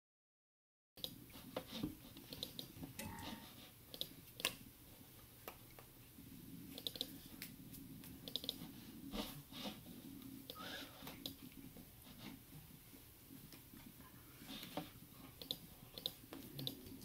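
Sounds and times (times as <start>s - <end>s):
faint room hum: 1.0s - 17.0s.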